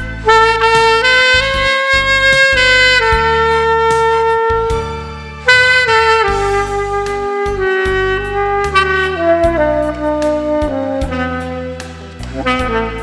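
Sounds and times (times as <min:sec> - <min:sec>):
backing track with bass and drums: 0:00.0 - 0:13.0
saxophone slow melody: 0:00.0 - 0:13.0.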